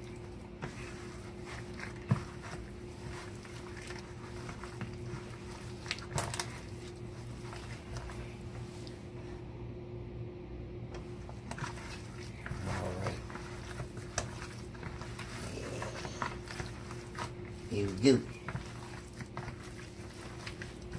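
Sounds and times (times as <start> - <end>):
meat squishing in flour: 0.0 - 9.5, 11.0 - 20.9.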